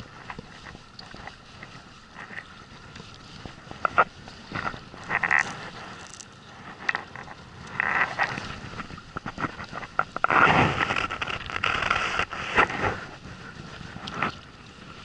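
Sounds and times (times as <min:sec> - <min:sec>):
water noise around boat: 0:00.0 - 0:15.0
wind: 0:00.0 - 0:15.0.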